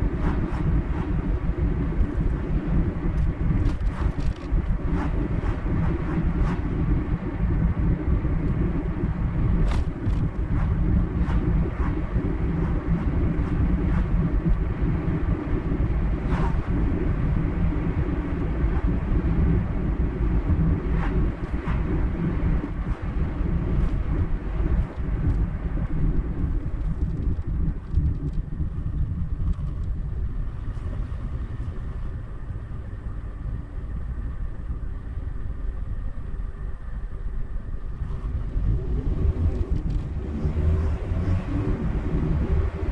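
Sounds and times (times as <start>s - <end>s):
car engine and tyres rumbling: 0.0s - 42.9s.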